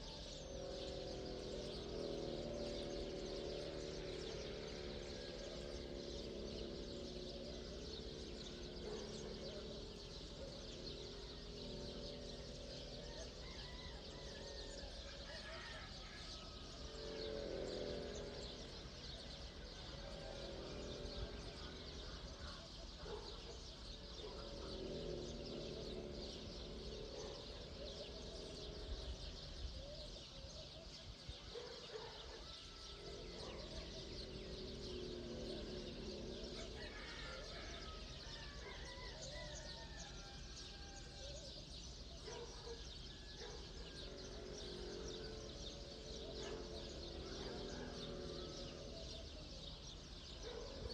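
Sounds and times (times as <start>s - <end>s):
low drawn-out bird calls: 0.0s - 50.9s
small birds chirping: 0.0s - 50.9s.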